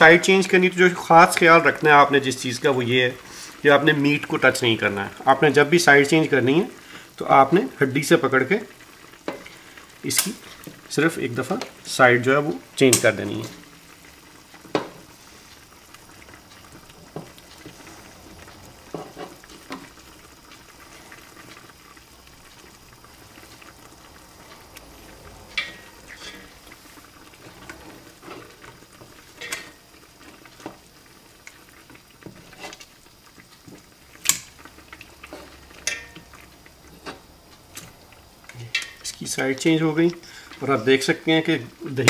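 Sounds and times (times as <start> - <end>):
gravy simmering: 0.0 - 42.0.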